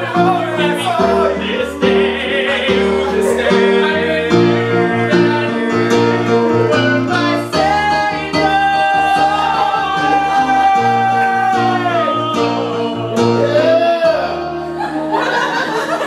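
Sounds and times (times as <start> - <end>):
person singing show tune: 0.0 - 15.4
instrumental accompaniment: 0.0 - 16.0.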